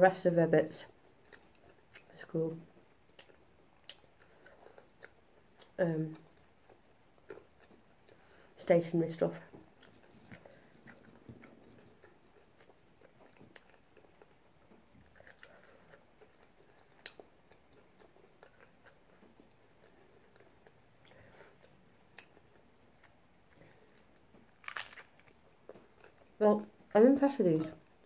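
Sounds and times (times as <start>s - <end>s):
person chewing: 1.1s - 2.2s, 2.8s - 8.4s, 9.6s - 26.4s.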